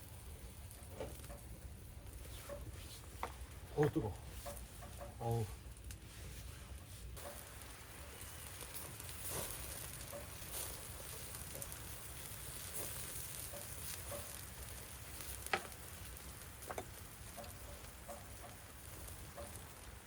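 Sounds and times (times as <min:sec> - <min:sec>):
fire popping: 0:00.0 - 0:20.0
skewers sizzling over fire: 0:00.0 - 0:20.0.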